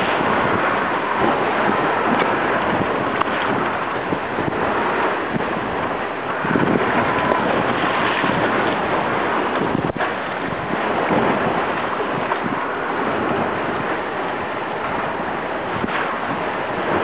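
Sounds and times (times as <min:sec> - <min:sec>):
waves rushing along a hull: 0:00.0 - 0:17.0
wind buffeting microphone: 0:00.0 - 0:17.0.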